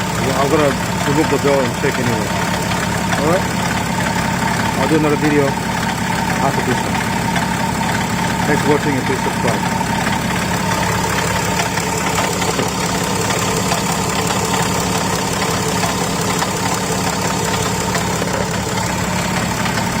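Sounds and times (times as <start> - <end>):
car engine idling: 0.0 - 20.0
rotational noise from engine: 0.0 - 20.0.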